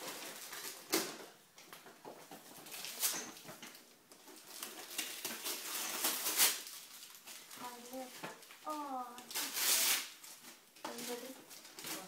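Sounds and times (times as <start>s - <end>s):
wrapping paper rustling and tearing: 0.0s - 1.2s, 2.4s - 3.4s, 4.1s - 12.0s.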